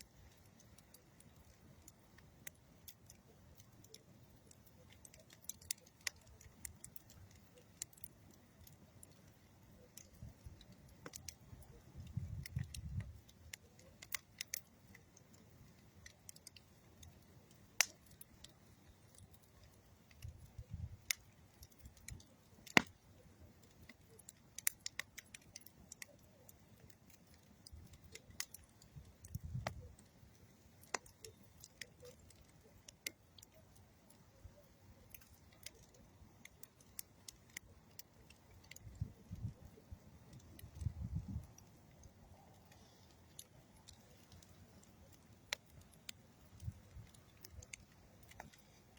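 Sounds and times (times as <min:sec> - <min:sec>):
campfire crackling: 0:00.0 - 0:48.9
sharp pops and snaps of fire: 0:00.0 - 0:48.9.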